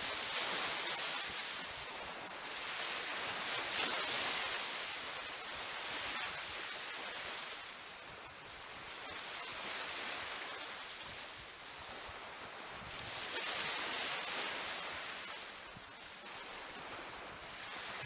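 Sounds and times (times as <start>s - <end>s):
waves washing up beach: 0.0s - 18.0s.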